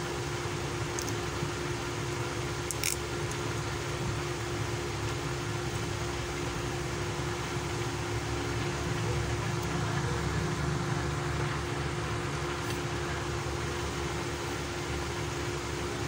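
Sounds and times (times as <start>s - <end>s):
electric fan whirring: 0.0s - 16.0s.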